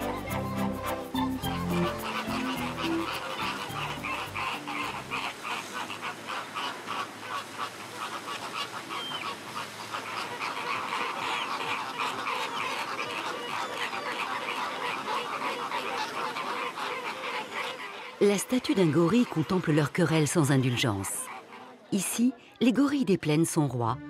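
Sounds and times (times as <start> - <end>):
flamingos honking: 0.0 - 24.0.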